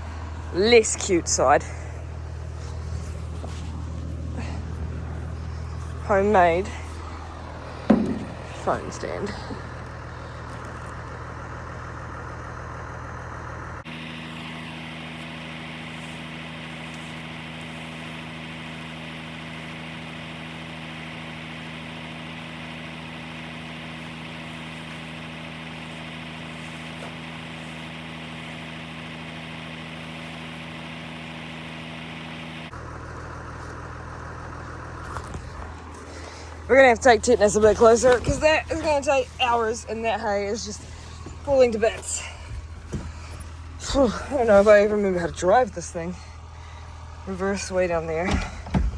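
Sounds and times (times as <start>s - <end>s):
vehicle engine idling: 0.0s - 48.9s.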